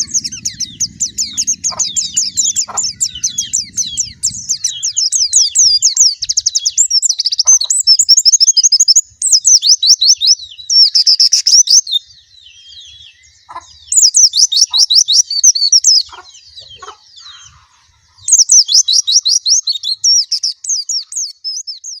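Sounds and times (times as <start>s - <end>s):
bird singing high chirps: 0.0s - 22.0s
faint bird twittering: 0.0s - 22.0s.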